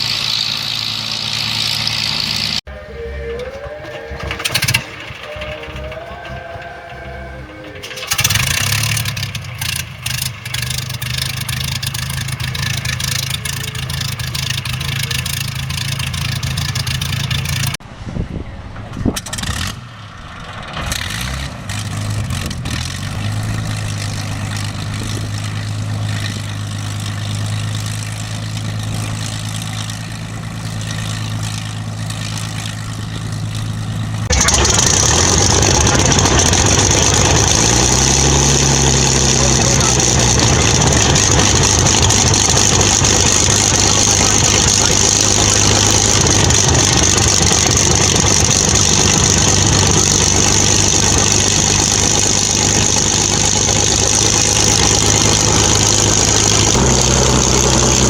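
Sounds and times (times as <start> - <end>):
aircraft engine running: 0.0 - 20.6, 21.5 - 58.0
uneven engine pops: 1.4 - 17.8, 27.7 - 58.0.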